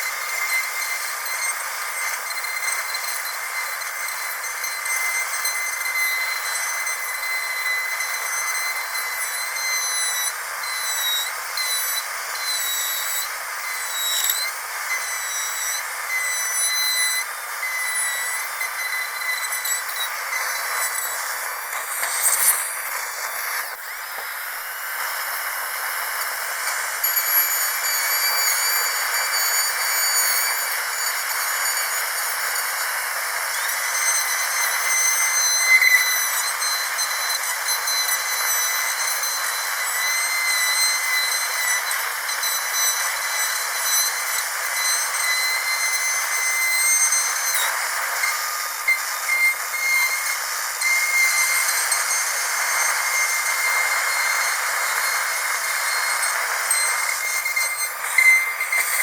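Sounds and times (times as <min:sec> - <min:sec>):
dental drill whining: 0:00.0 - 0:59.0.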